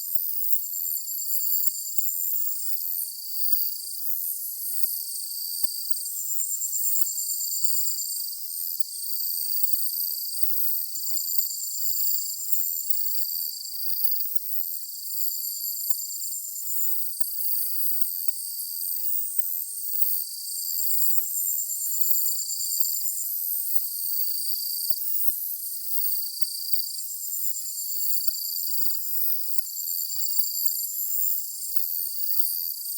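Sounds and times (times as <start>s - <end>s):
insects chirping and trilling: 0.2s - 32.9s.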